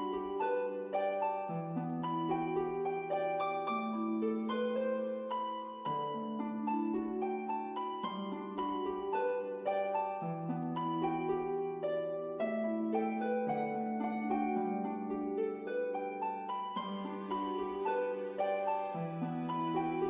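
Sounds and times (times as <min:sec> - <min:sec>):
gentle harp-like plucked music: 0:00.0 - 0:20.0.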